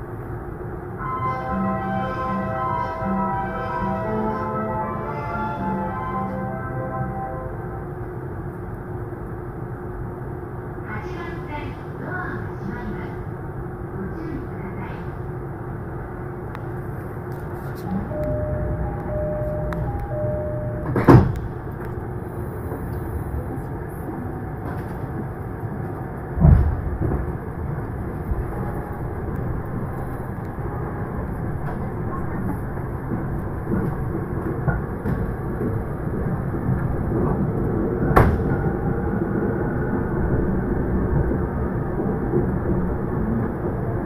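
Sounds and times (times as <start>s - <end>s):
train carriage rumbling: 0.0s - 44.0s.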